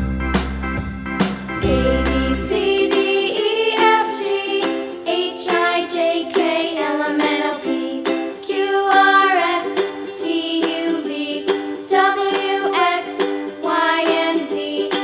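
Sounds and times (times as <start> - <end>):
upbeat ukulele tune: 0.0 - 15.0.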